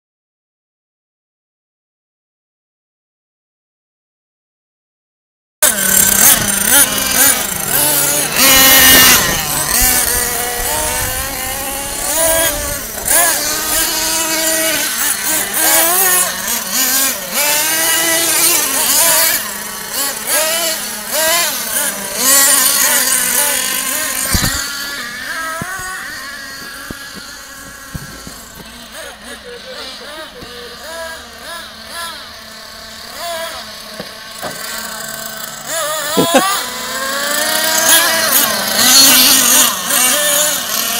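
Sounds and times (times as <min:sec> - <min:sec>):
rc truck motor revving: 0:05.6 - 0:40.9.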